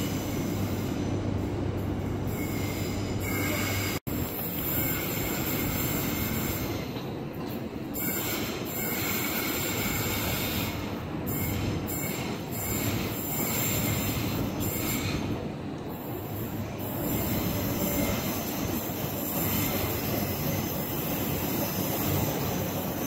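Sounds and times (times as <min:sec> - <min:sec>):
train rumble: 0:00.0 - 0:23.0
train wheels squealing: 0:00.0 - 0:23.0.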